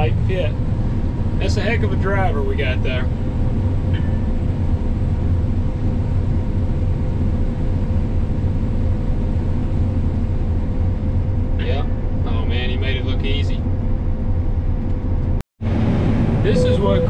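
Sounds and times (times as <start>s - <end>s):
high machinery whine: 0.0s - 15.0s, 15.7s - 17.0s
combine engine rumble: 0.0s - 17.0s.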